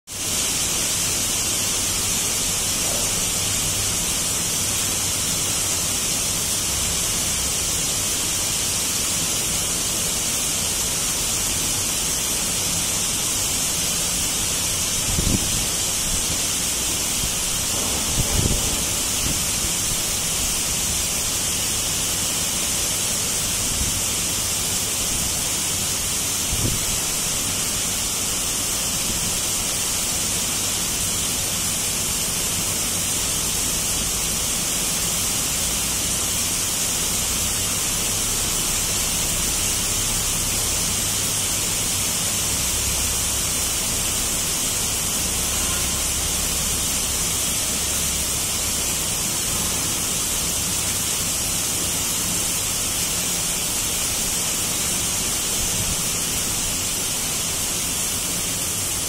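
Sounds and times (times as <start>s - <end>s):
heavy rain on lawn and trees: 0.1s - 59.0s.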